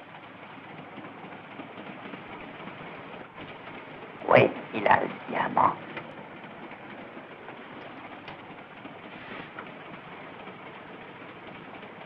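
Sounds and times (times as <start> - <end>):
moving train interior noise: 0.0 - 12.0.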